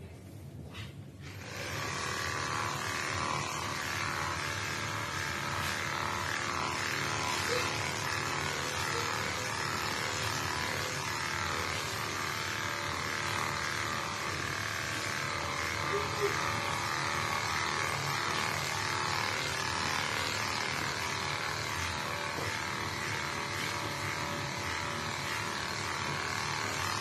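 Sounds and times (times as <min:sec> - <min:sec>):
electric hair clippers buzzing: 0:01.2 - 0:27.0.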